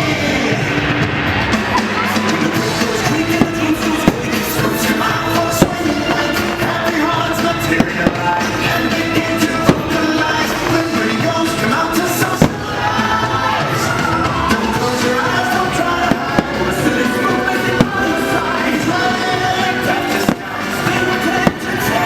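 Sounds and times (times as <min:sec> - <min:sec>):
music soundtrack: 0:00.0 - 0:22.0
firework bangs: 0:00.6 - 0:22.0.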